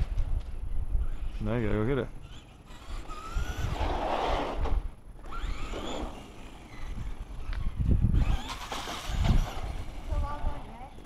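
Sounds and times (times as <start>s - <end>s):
toy car electric motor whining: 1.0s - 11.0s.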